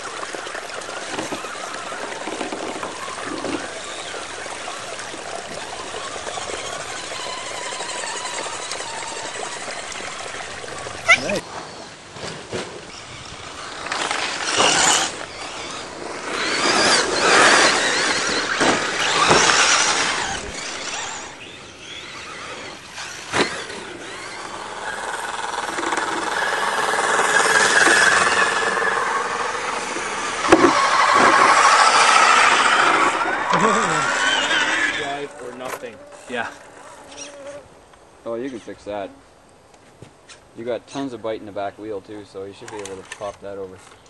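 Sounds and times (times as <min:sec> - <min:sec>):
electric motors whining: 0:00.0 - 0:12.0, 0:12.8 - 0:37.7.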